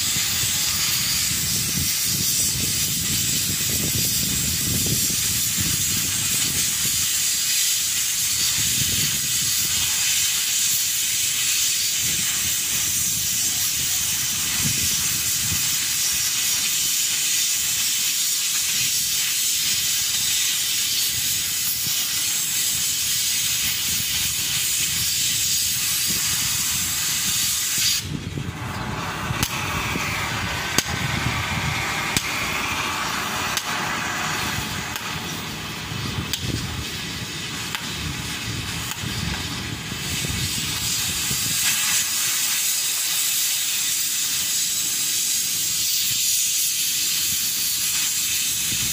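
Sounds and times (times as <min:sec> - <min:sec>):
cutting torch hissing: 0:00.0 - 0:48.9.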